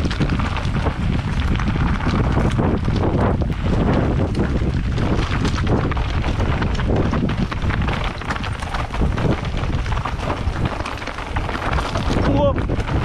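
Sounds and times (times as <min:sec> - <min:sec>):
bike rattling knocks: 0:00.0 - 0:13.0
tyres on rock and gravel: 0:00.0 - 0:13.0
wind rumbling on microphone: 0:00.0 - 0:13.0.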